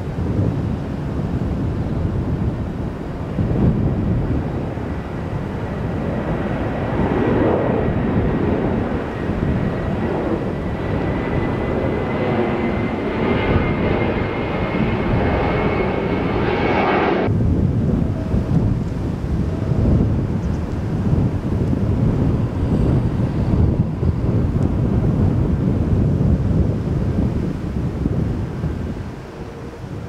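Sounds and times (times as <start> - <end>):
jet engine roar with whine: 0.0 - 30.0.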